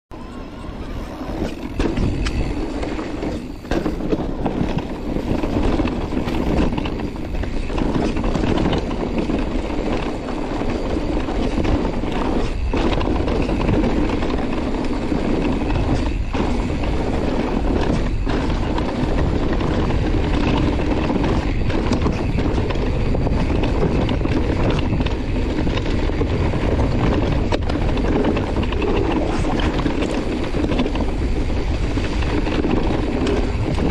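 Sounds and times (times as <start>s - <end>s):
wind on microphone: 0.1s - 33.9s
bike tyres rumbling on dirt: 0.8s - 33.9s.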